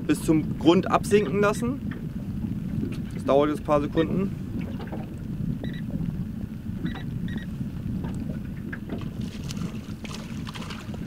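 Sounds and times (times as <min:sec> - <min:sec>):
water lapping against boat: 0:00.0 - 0:11.0
wind on microphone: 0:00.0 - 0:11.0.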